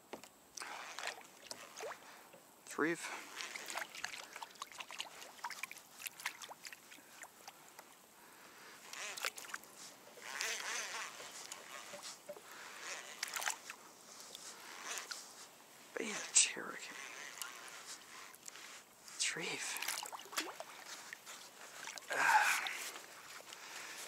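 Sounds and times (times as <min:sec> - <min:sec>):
water sloshing and splashing: 0:00.6 - 0:08.0, 0:08.8 - 0:15.9, 0:16.8 - 0:24.0.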